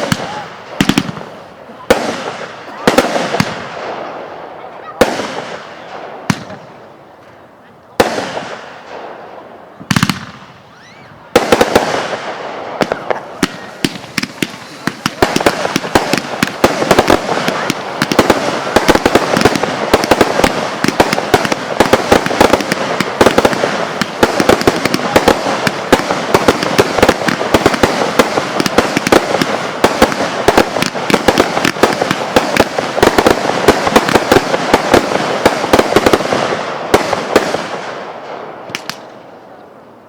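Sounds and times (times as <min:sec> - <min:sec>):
fireworks bangs and crackling: 0:00.0 - 0:39.4.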